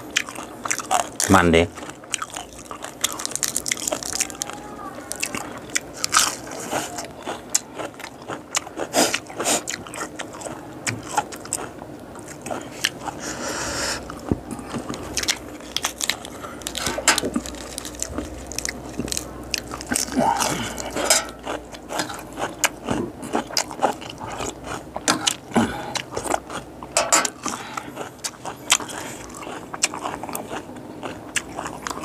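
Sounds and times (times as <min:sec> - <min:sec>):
person chewing with crunches: 0:00.0 - 0:32.0.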